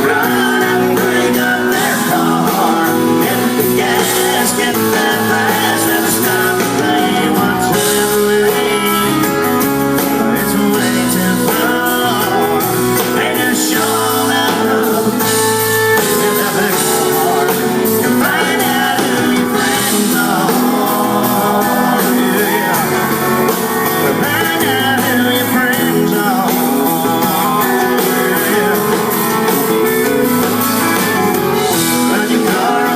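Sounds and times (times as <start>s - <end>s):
electric guitar: 0.0s - 32.9s
live country-rock band: 0.0s - 32.9s.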